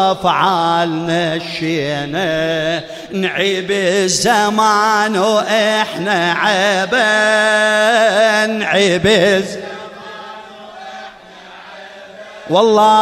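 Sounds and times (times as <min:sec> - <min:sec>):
man chanting into a microphone: 0:00.0 - 0:10.0, 0:12.3 - 0:13.0.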